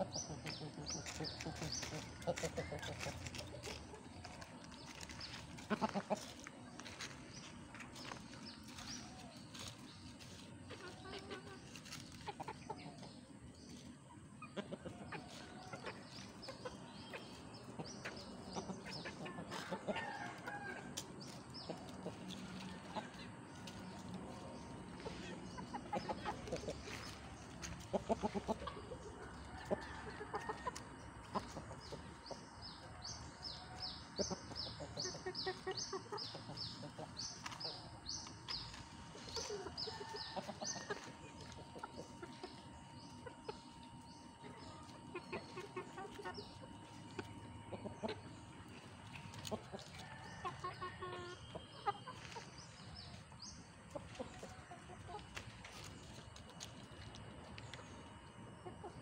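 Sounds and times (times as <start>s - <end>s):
chicken clucking: 0.0s - 59.0s.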